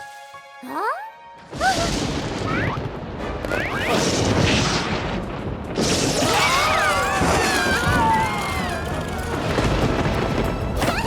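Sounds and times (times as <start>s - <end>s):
crashing and rumbling effects: 1.5s - 11.0s.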